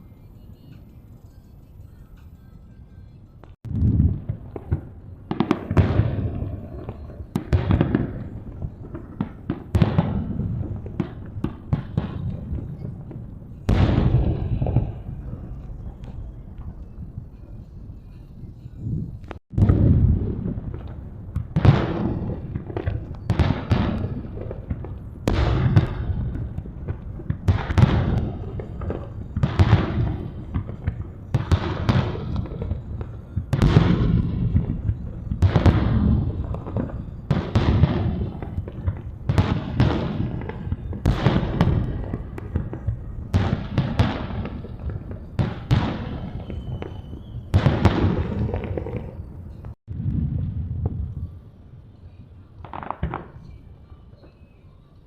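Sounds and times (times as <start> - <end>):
firework shells bursting: 3.6 - 49.8.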